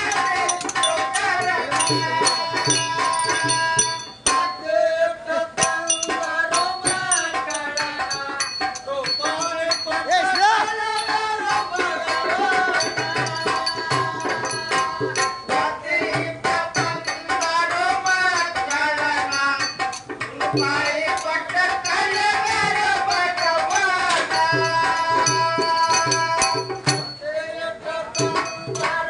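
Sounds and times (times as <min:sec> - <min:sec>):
hand cymbals clicking: 0:00.0 - 0:04.7, 0:05.6 - 0:27.3, 0:28.1 - 0:29.0
drum beating: 0:00.0 - 0:04.8, 0:05.5 - 0:27.3, 0:28.2 - 0:29.0
men singing: 0:00.0 - 0:29.0.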